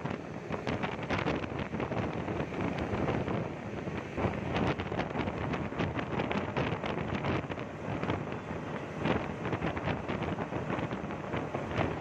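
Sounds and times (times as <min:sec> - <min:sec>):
water rushing and spray: 0:00.0 - 0:12.0
wind buffeting microphone: 0:00.0 - 0:12.0.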